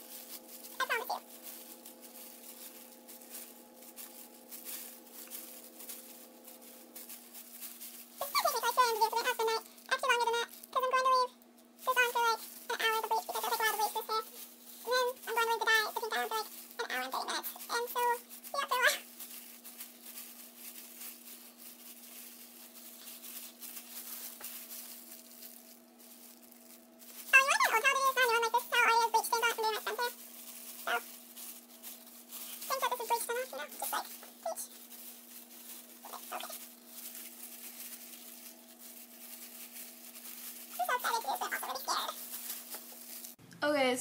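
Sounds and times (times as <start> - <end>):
plastic gloves crinkling: 0.0 - 43.4
low electrical hum: 0.0 - 44.0.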